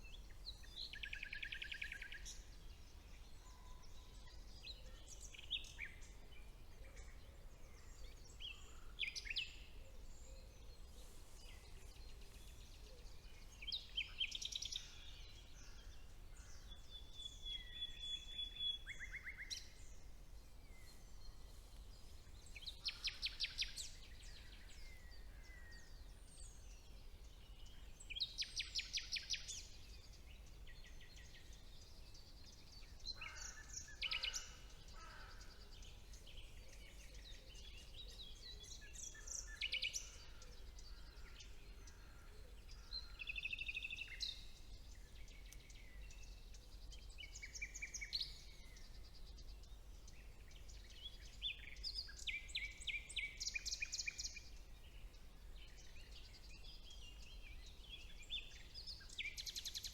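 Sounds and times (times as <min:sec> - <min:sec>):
faint low background noise: 0:00.0 - 0:59.9
songbirds singing: 0:00.0 - 0:59.9.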